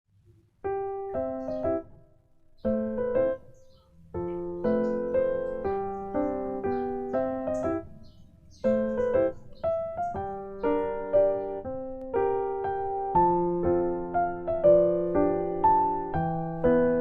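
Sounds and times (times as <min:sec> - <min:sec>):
gentle piano melody: 0:00.2 - 0:17.0.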